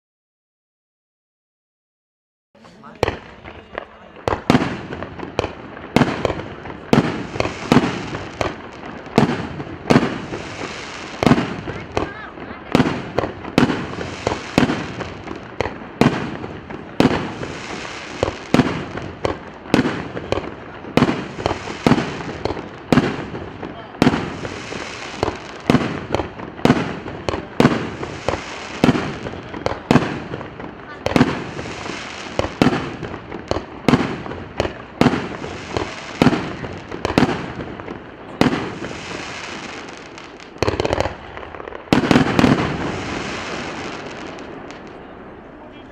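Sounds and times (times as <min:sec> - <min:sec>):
firework crackling and rumble: 0:02.6 - 0:45.9
firework cake bangs: 0:02.8 - 0:45.1.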